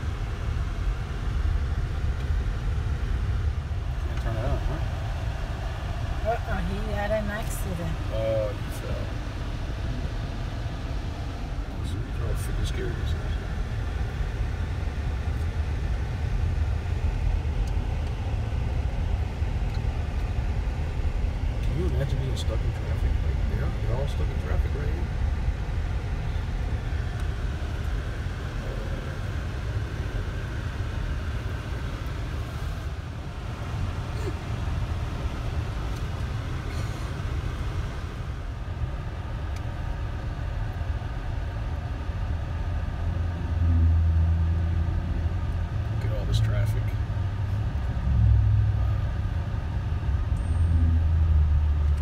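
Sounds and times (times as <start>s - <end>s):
car engine and tyres rumbling: 0.0s - 52.0s.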